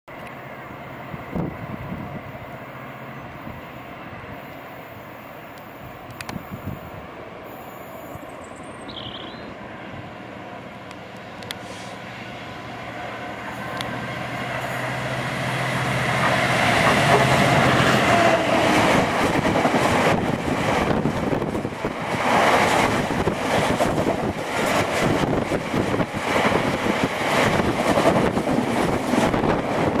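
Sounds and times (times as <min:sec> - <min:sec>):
diesel locomotive engine humming: 0:00.1 - 0:30.0.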